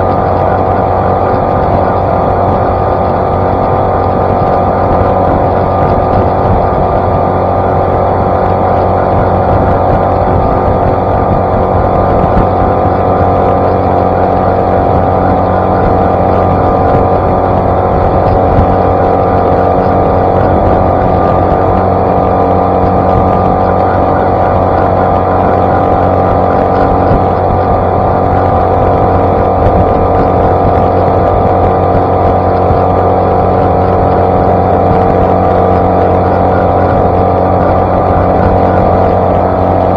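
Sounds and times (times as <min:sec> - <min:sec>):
outboard motor running: 0:00.0 - 0:39.9
water rushing off hull: 0:00.0 - 0:39.9.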